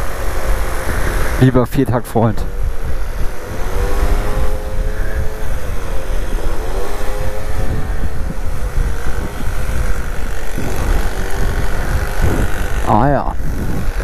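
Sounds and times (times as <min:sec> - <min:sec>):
scooter engine running: 0:00.0 - 0:01.5, 0:02.5 - 0:14.0
wind rumbling on microphone: 0:00.0 - 0:14.0.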